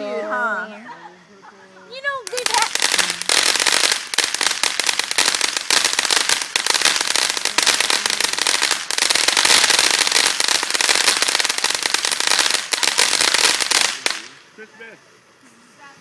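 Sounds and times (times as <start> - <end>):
fireworks crackling: 2.0 - 14.9.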